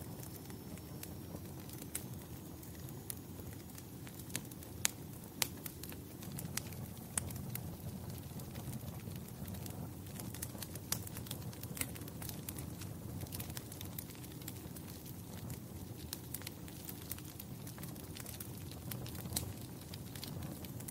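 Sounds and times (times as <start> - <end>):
fire crackling with pops: 0.0 - 20.9.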